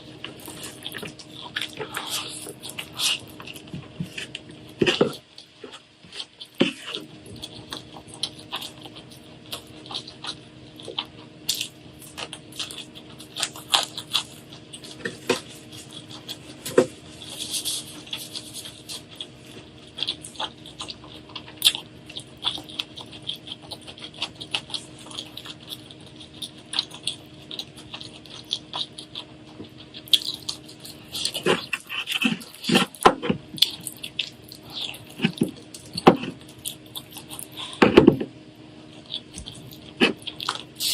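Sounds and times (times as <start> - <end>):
crunchy food being chewed: 0.0 - 40.9
steady low hum: 0.0 - 40.9.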